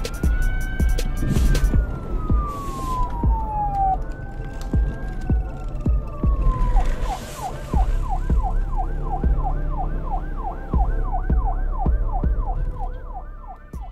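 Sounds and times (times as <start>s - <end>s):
low thumping beat: 0.0s - 2.6s, 3.2s - 3.7s, 4.8s - 6.8s, 7.8s - 13.9s
emergency vehicle siren yelping: 0.0s - 13.9s.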